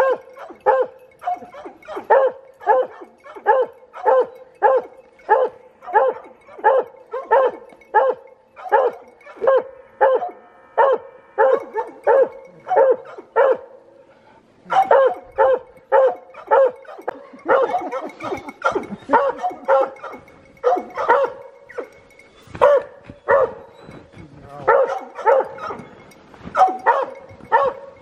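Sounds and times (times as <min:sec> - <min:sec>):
hounds barking: 0:00.0 - 0:14.0, 0:14.6 - 0:28.0.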